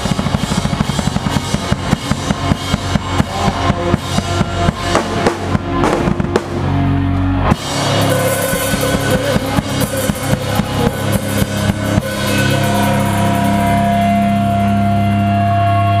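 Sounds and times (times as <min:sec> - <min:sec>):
fast drum beat with cymbals: 0:00.0 - 0:06.6, 0:07.5 - 0:16.0
guitars: 0:00.0 - 0:16.0
held ringing guitar chord: 0:02.2 - 0:16.0.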